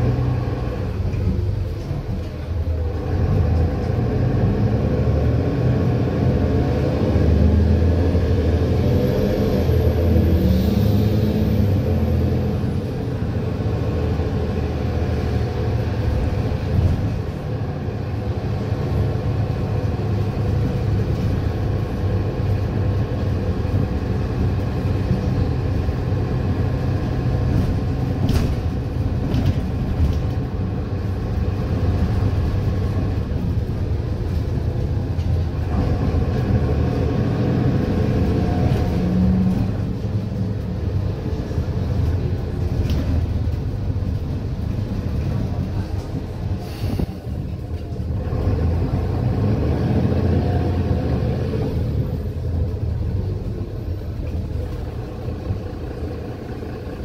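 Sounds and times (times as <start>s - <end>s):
bus diesel engine rumble: 0.0s - 57.0s
road noise: 0.0s - 57.0s.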